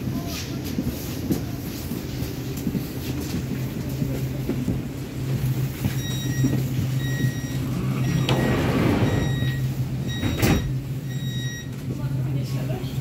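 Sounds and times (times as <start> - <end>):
train equipment low hum: 0.0 - 13.0.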